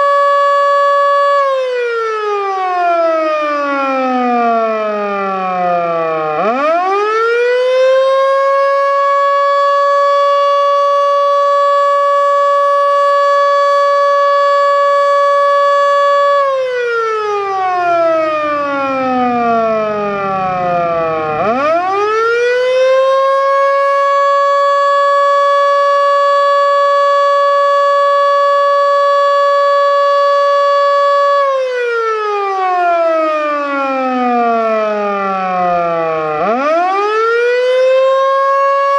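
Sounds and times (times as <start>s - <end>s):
low rumble of siren slowing: 0.0s - 38.9s
outdoor warning siren: 0.0s - 38.9s.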